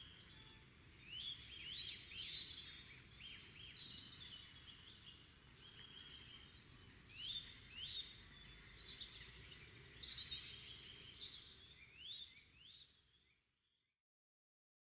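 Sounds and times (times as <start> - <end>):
faint low background noise: 0.0 - 14.0
songbirds singing and chirping: 0.0 - 14.0.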